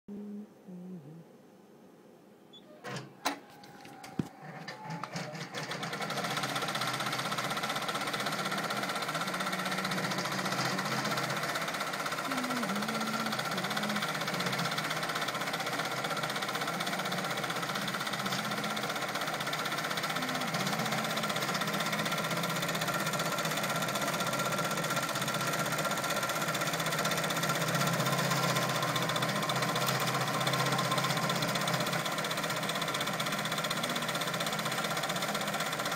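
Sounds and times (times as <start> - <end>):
embroidery machine needle rattle: 4.4 - 35.9.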